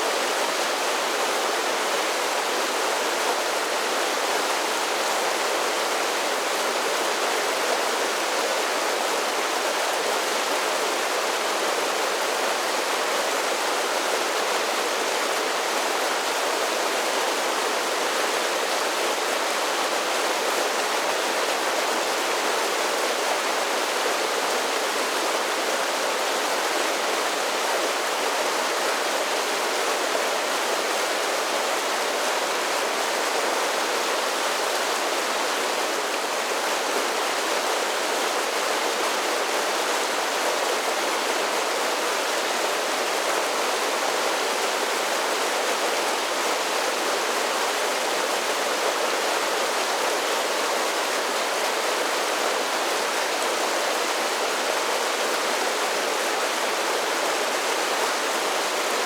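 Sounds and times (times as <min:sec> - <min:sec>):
creek rushing over waterfalls: 0:00.0 - 0:59.0.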